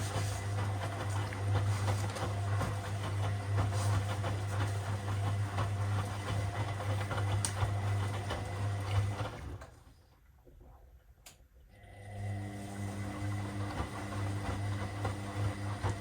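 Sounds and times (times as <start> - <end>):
washing machine motor hum: 0.0 - 9.9, 11.7 - 16.0.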